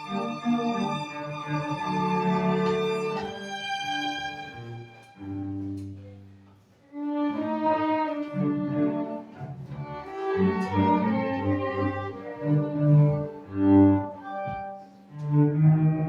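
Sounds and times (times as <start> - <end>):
small ensemble instrumental music: 0.0 - 16.0.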